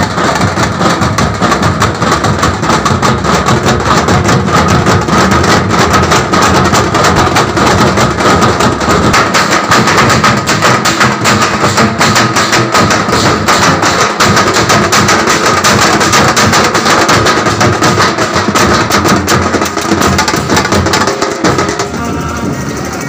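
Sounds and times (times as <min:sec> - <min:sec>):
drum band playing fast rhythm: 0:00.0 - 0:23.0.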